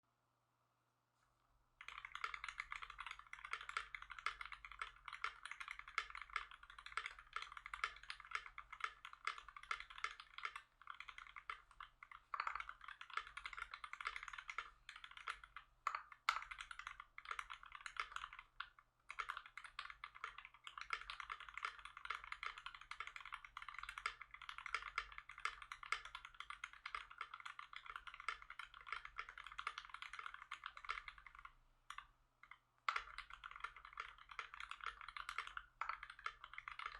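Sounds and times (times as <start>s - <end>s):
fast mechanical keyboard typing: 1.8s - 32.0s, 32.9s - 36.9s.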